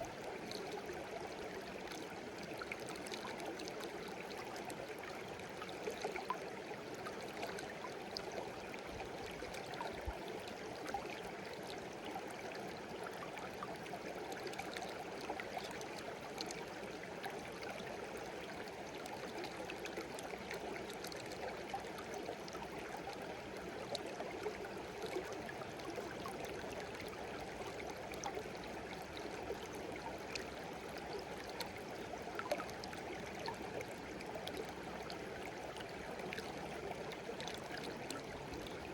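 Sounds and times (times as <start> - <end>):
stream babbling: 0.1 - 38.9.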